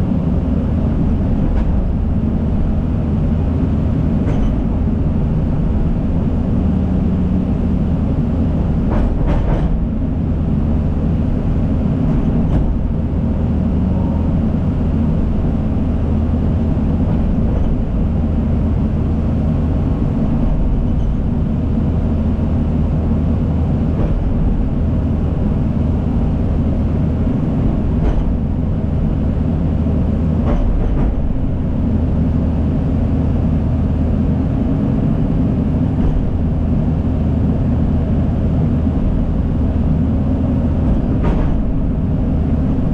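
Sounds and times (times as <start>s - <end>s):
diesel machinery rumbling: 0.0s - 42.9s.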